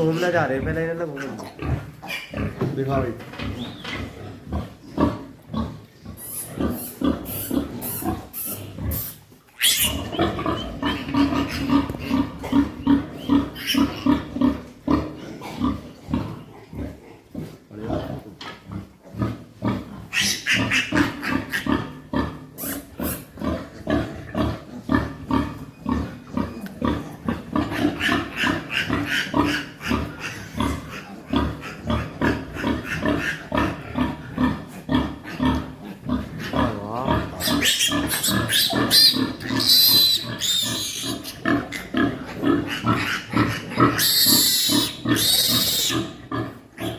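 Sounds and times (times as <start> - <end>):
pigs high-pitched cries: 0.0 - 2.6, 3.4 - 17.0, 18.8 - 46.9
pigs grunting: 0.0 - 46.9.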